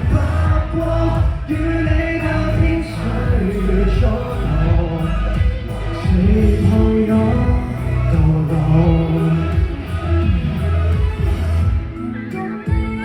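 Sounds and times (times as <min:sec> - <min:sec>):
bass notes: 0:00.0 - 0:13.0
person singing: 0:00.0 - 0:13.0.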